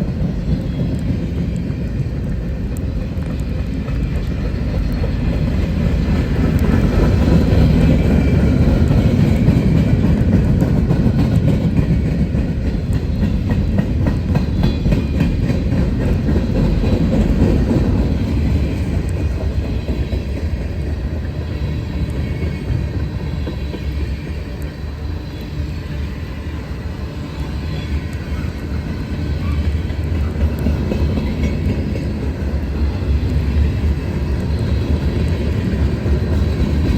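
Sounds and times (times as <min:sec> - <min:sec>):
train rumbling past: 0:00.0 - 0:36.9.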